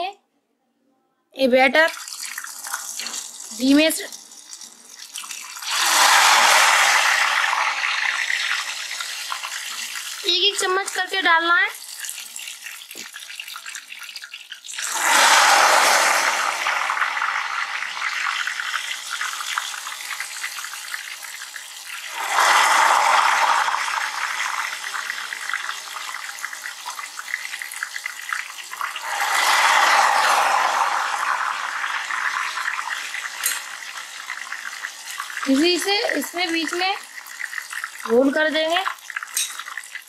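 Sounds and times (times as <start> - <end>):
batter sizzling in hot oil: 1.9 - 40.0
oil bubbling: 1.9 - 40.0.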